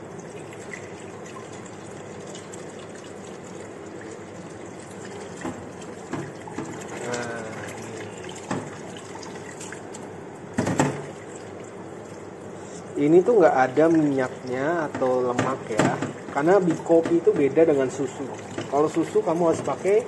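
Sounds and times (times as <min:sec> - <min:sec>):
tap water running into metal sink: 0:00.3 - 0:10.0, 0:13.2 - 0:20.0.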